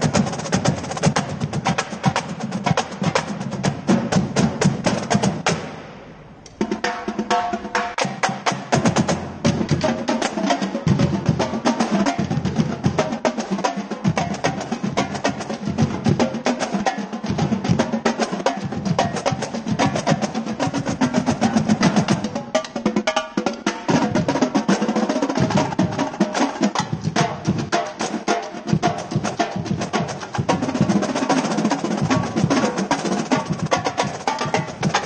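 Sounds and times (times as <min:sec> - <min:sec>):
marching drumline playing: 0:00.0 - 0:06.0, 0:06.6 - 0:35.0.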